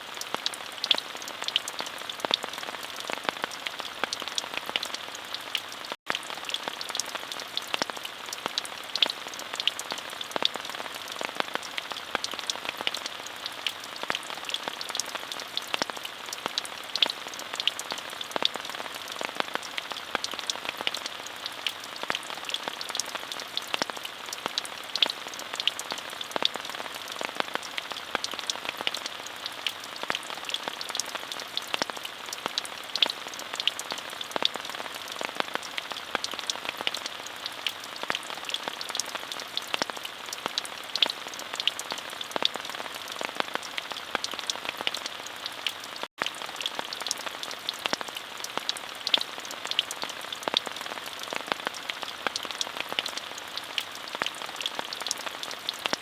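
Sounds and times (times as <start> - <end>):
rain drops tapping: 0.1 - 56.0.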